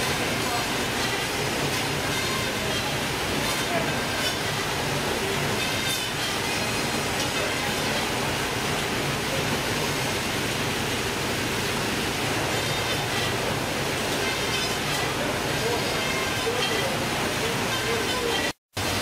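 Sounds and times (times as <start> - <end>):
conveyor machinery running: 0.0 - 19.0.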